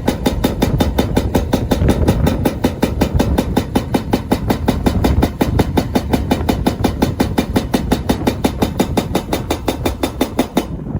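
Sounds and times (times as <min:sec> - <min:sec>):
fast even ticking: 0:00.0 - 0:10.8
wheels rumbling on paved path: 0:00.0 - 0:10.9.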